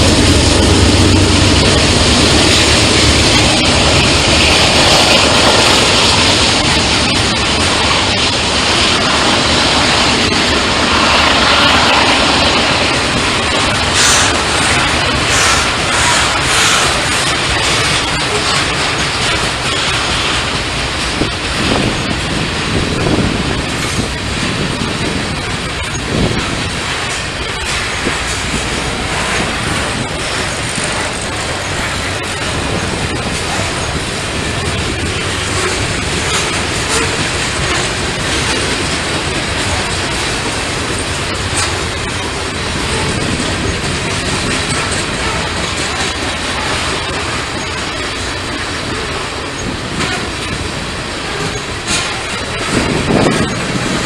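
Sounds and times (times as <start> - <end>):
train wheels rushing on rails: 0.0 - 54.0.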